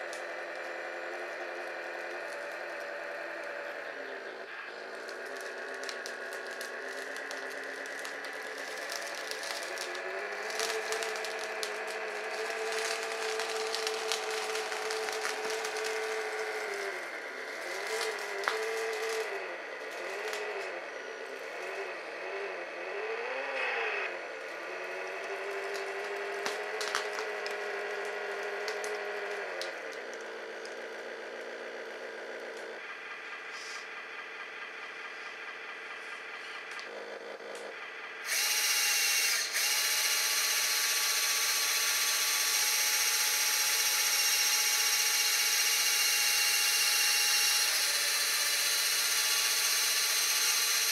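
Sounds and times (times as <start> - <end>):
synthetic diesel engine drone: 0.0 - 50.9.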